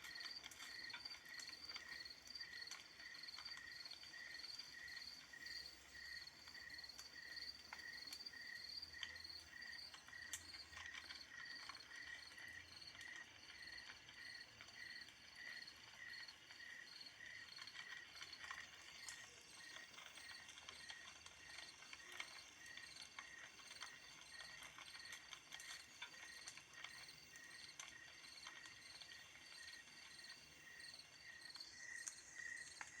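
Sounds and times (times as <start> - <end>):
crickets chirping: 0.1 - 33.0.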